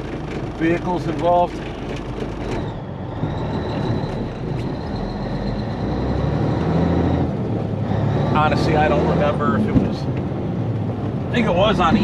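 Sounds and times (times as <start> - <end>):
diesel truck engine rumble: 0.0 - 12.0.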